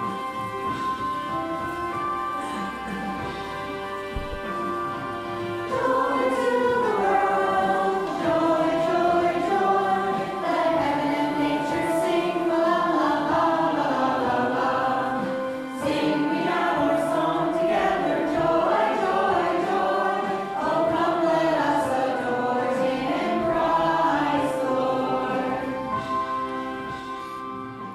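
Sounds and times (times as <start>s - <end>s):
choir singing: 2.4s - 27.2s.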